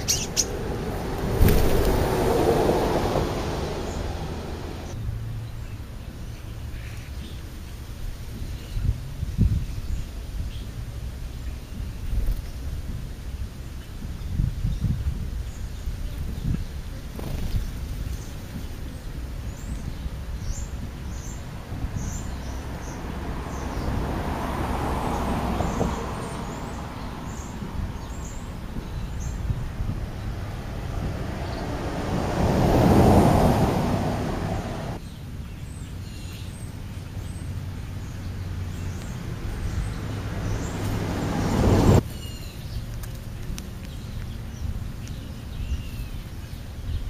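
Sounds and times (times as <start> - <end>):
outdoor background noise: 0.0 - 47.0
small birds chirping: 0.0 - 47.0.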